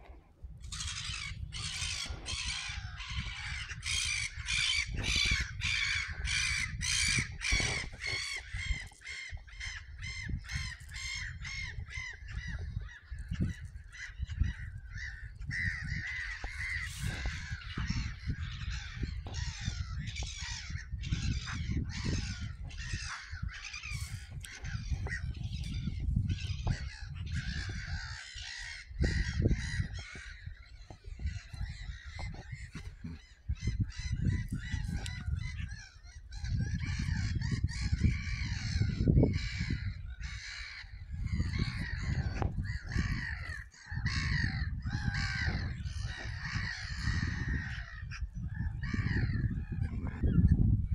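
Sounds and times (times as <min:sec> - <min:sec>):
gulls calling: 0:00.0 - 0:50.7
wind gusting on microphone: 0:00.0 - 0:50.9.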